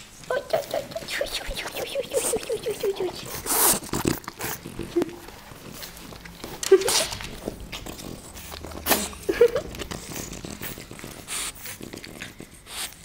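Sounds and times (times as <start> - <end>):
dog snorting: 0.6 - 13.0.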